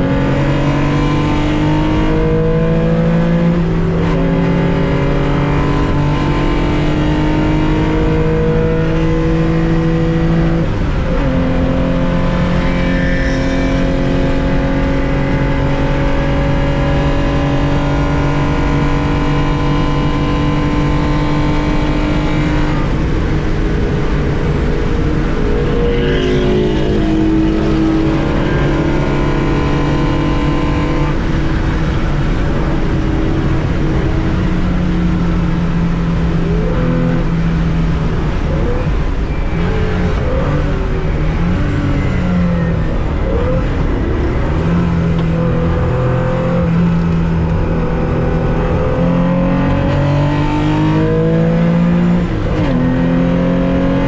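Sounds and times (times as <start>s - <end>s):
racing car engine under load: 0.0s - 54.0s.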